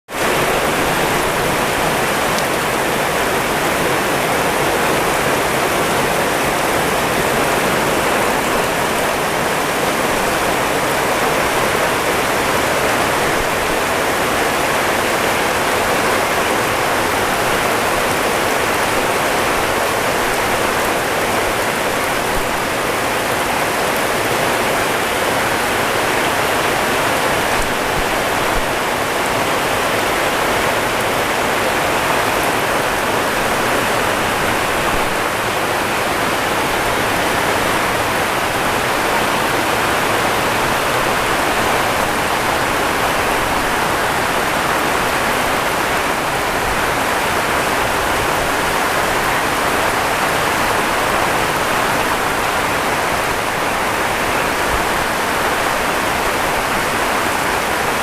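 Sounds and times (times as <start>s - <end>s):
heavy rain pouring: 0.1s - 58.0s.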